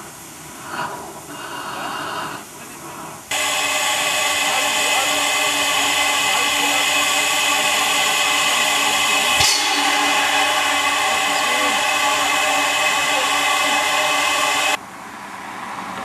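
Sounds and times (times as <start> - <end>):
steam locomotive hissing steam: 0.0 - 14.8.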